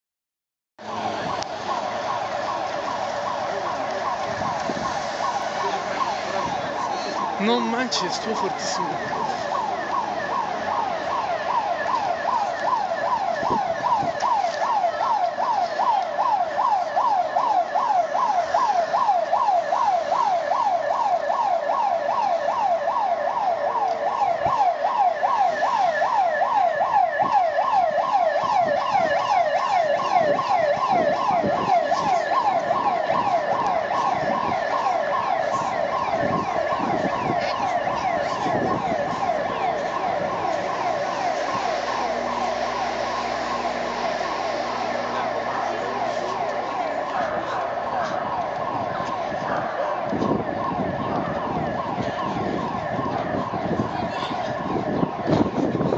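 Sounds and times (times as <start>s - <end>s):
faint street noise: 0.8s - 55.9s
siren rising sweeps: 0.8s - 55.9s.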